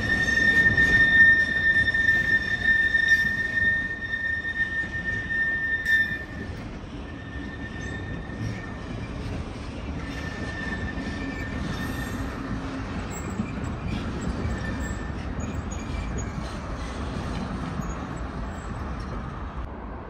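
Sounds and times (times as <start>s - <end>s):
high steady squeal: 0.0s - 16.5s
train wheels rumbling: 0.0s - 19.8s.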